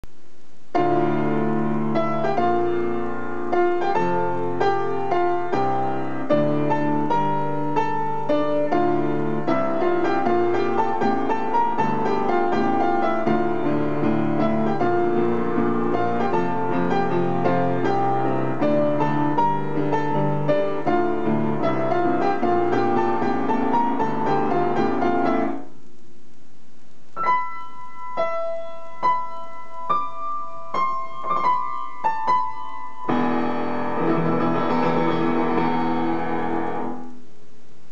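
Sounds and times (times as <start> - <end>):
solo piano playing: 0.7 - 25.7, 27.2 - 37.2.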